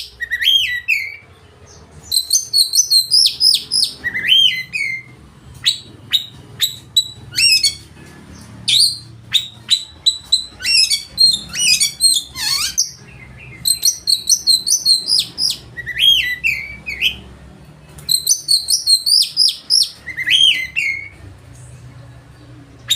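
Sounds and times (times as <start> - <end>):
songbird singing: 0.0 - 22.9.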